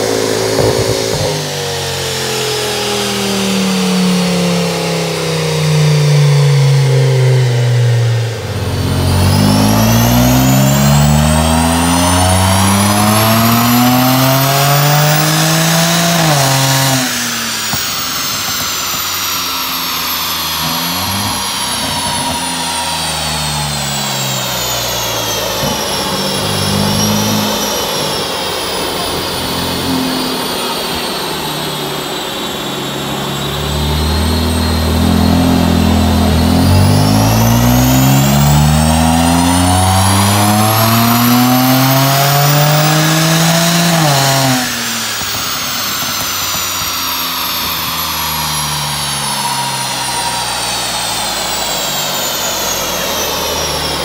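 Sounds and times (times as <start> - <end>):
car engine revving under load: 0.0 - 54.0
high whine: 0.0 - 54.0.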